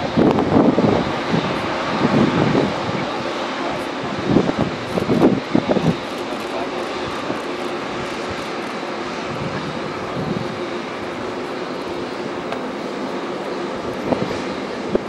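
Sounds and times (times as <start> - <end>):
jet engines at taxi power: 0.0 - 15.0.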